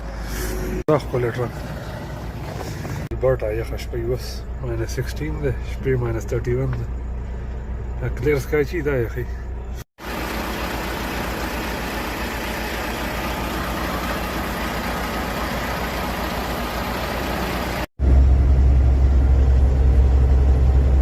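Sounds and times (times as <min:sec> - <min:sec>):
road noise: 0:00.0 - 0:21.0
truck engine running: 0:00.0 - 0:21.0.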